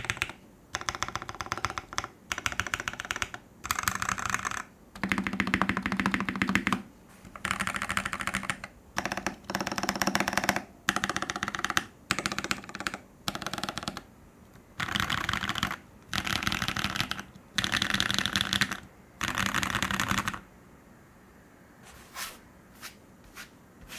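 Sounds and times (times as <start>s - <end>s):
mechanical keyboard typing: 0.0s - 20.5s.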